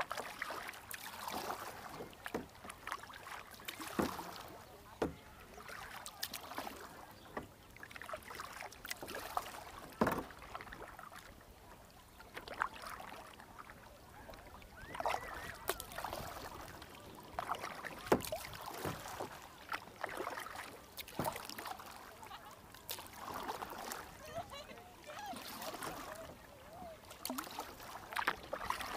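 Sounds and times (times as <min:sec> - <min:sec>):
paddle splashes: 0:00.0 - 0:28.9
water sloshing: 0:00.0 - 0:28.9.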